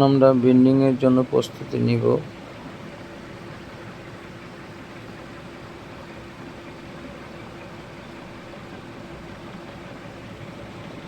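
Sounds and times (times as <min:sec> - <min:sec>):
faint constant tone: 0:00.0 - 0:11.0
workshop mechanical hum and hiss: 0:00.0 - 0:11.0.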